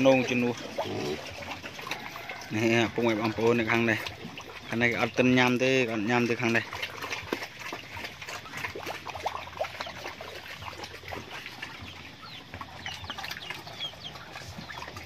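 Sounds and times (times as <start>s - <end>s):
pigs chewing at a trough: 0.0s - 15.0s.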